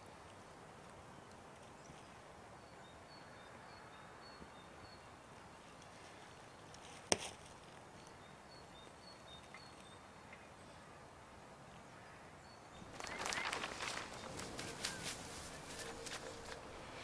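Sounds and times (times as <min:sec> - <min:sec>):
faint night ambience: 0:00.0 - 0:17.0.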